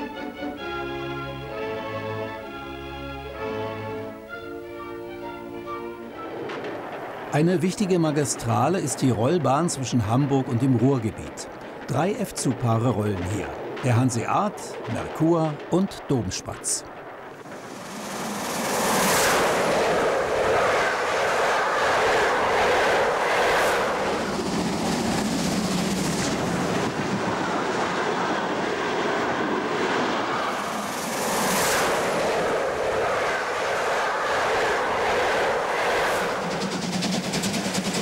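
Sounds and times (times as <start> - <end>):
steam train rolling past: 0.0 - 38.0.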